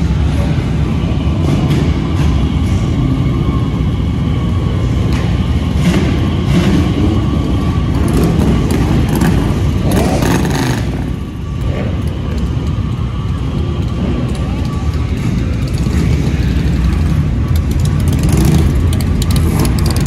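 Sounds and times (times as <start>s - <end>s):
vehicle engines revving: 0.0s - 20.0s.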